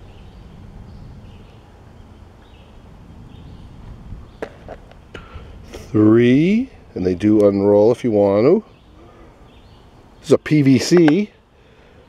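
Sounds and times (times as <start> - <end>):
bird chirping: 0.0 - 5.5, 6.4 - 12.0
low steady rumble: 0.0 - 10.3.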